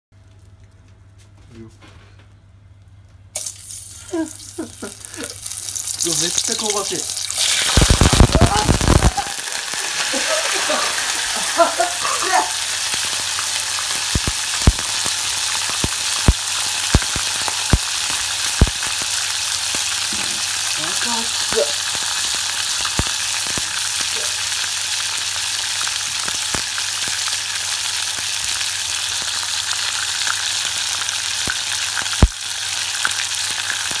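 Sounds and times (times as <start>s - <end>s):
crabs sizzling in oil: 3.4s - 34.0s.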